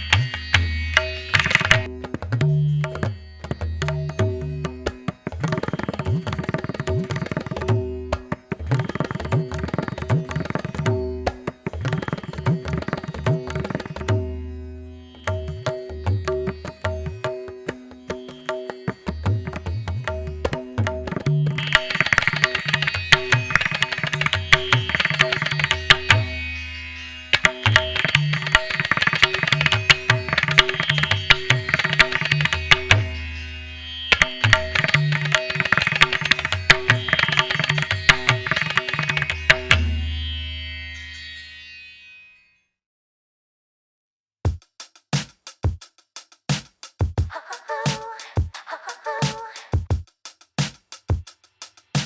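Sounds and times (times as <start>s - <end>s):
hand drum percussion: 0.1s - 14.4s, 15.2s - 26.4s, 27.4s - 33.2s, 34.2s - 39.8s, 44.5s - 52.0s.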